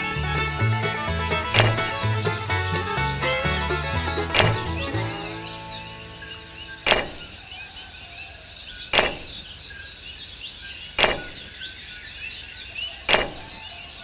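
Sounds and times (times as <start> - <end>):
small birds chirping: 1.6 - 14.0.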